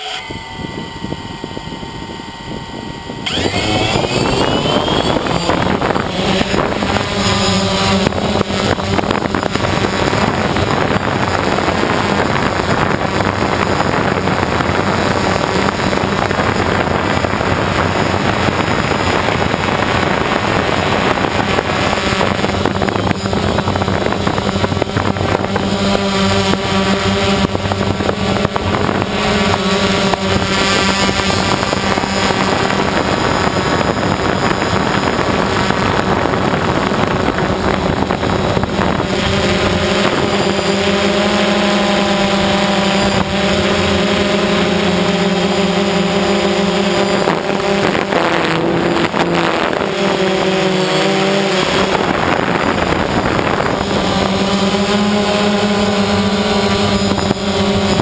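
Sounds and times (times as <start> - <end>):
drone motors and propellers buzzing: 0.0 - 58.0.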